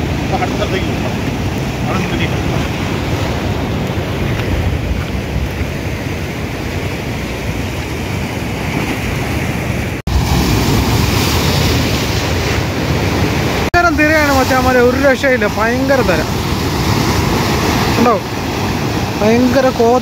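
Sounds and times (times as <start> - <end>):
surf breaking against rocks: 0.0 - 20.0
wind on microphone: 0.0 - 20.0.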